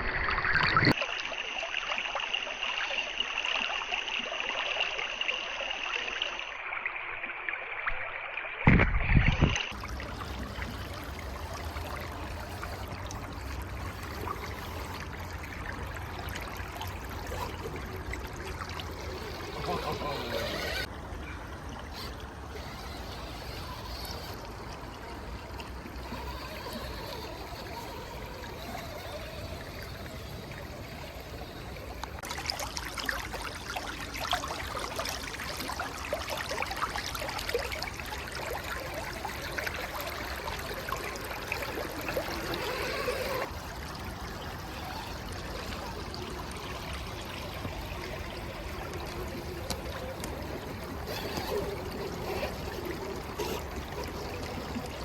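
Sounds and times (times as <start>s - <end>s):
creek water running: 0.0s - 55.0s
water splashing and crackling: 0.0s - 55.0s.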